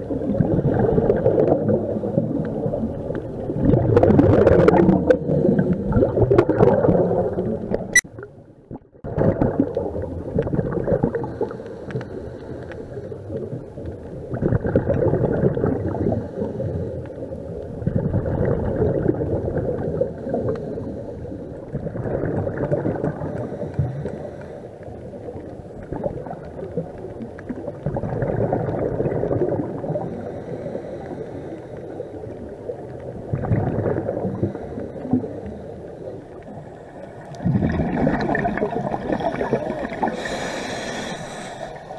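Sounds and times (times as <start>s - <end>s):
underwater breathing bubbles: 0.0s - 8.0s, 9.0s - 41.9s.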